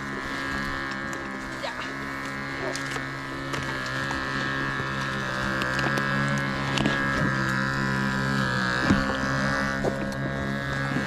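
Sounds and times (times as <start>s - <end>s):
high buzzing drone: 0.0s - 11.0s.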